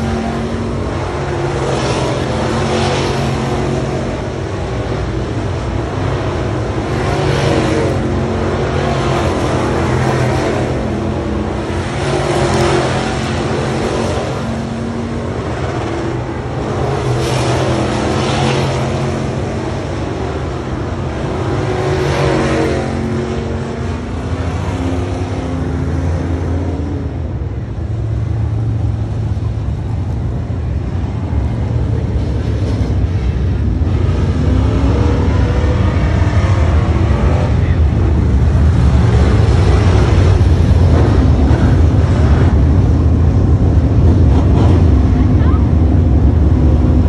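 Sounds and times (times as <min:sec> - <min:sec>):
race car engines: 0:00.0 - 0:47.0.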